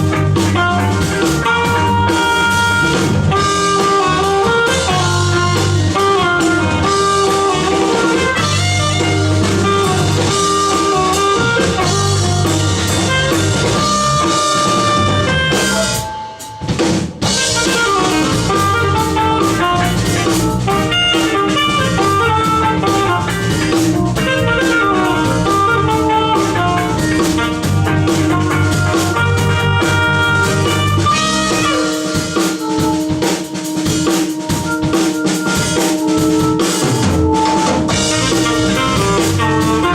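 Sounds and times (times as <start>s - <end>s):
jazz fusion band playing: 0.0s - 39.9s.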